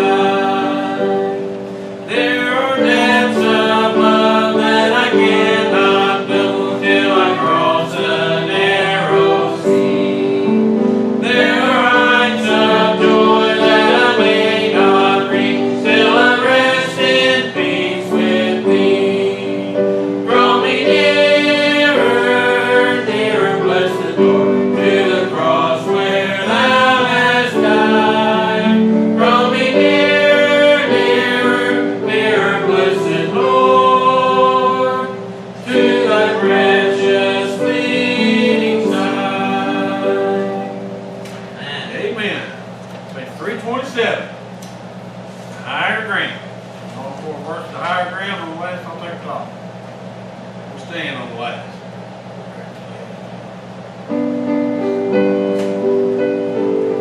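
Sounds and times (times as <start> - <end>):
congregation singing a hymn: 0.0 - 42.8, 53.6 - 57.0
instrumental accompaniment: 0.0 - 43.1, 54.0 - 57.0.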